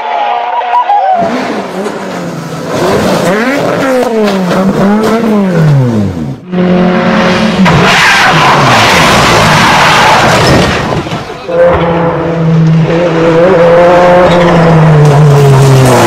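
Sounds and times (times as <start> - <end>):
rally car engine revving: 1.2 - 16.0.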